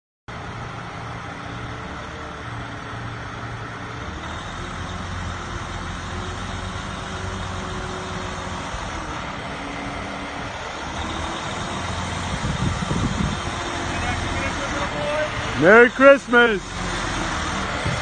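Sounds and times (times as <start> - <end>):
diesel truck engine rumbling: 0.3 - 18.0.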